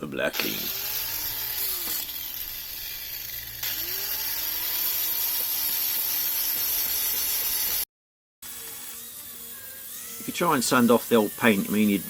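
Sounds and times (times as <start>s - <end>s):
sanding disc grinding steel: 0.2s - 7.8s, 8.4s - 12.0s.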